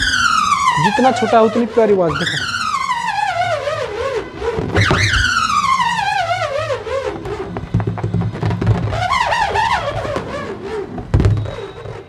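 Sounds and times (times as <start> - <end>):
nut whining inside balloon: 0.0 - 12.0.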